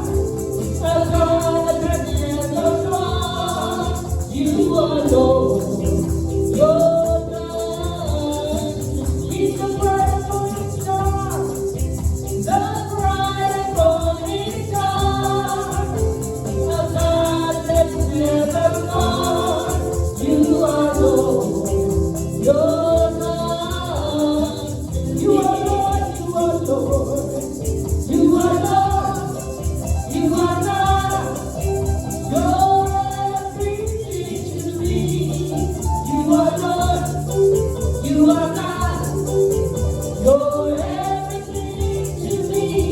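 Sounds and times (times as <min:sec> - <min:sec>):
person singing gospel song: 0:00.0 - 0:42.9
shaken rattle percussion: 0:00.0 - 0:42.9.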